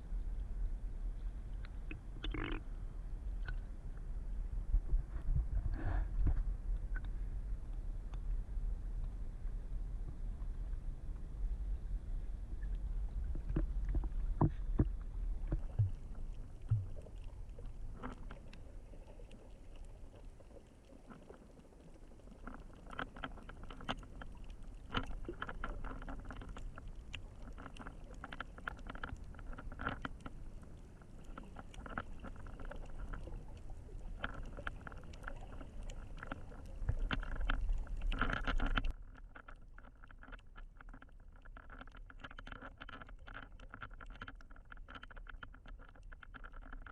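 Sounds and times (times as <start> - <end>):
muffled underwater rumble: 0.0 - 46.9
underwater clicks and crackles: 0.0 - 46.9.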